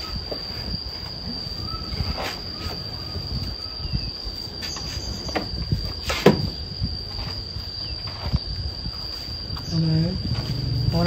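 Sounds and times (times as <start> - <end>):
insects whining: 0.0 - 11.0.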